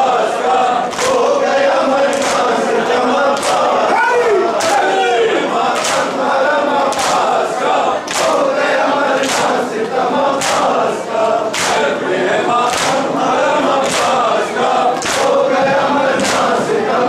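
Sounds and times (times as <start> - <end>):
male crowd chanting: 0.0 - 17.0.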